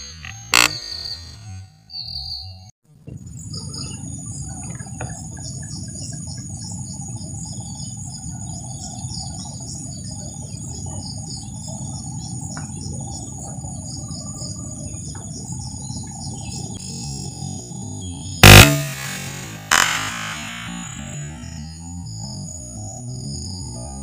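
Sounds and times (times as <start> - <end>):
continuous low rumble: 0.0 - 24.0
rapid insect chirps: 3.4 - 24.0.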